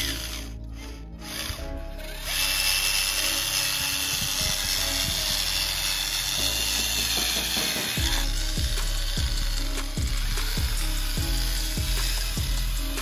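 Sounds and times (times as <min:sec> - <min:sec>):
toy gear motors whirring: 0:00.0 - 0:13.0.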